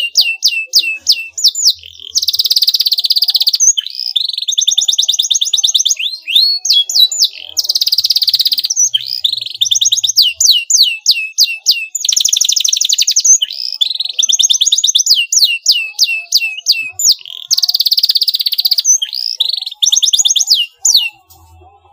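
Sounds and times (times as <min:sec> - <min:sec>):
canary singing: 0:00.0 - 0:21.9.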